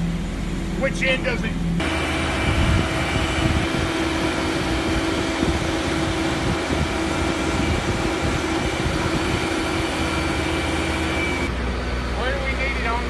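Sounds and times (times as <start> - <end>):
constant high whine: 0.0 - 13.0
diesel engine drone: 0.0 - 13.0.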